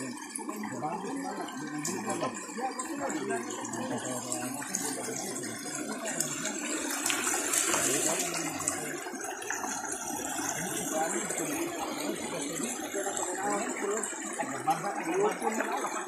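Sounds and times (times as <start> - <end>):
creek running over stones: 0.0 - 16.0.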